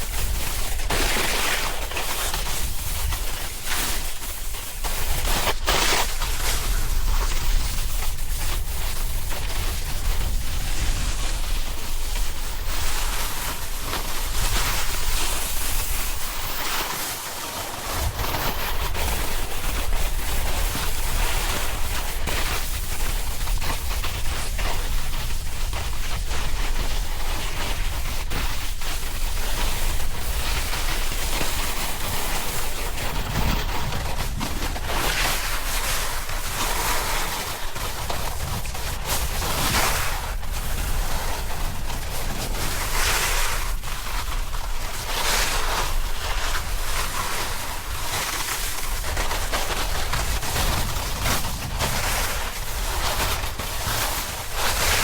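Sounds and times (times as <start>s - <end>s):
snowboard sliding across snow: 0.0s - 55.0s.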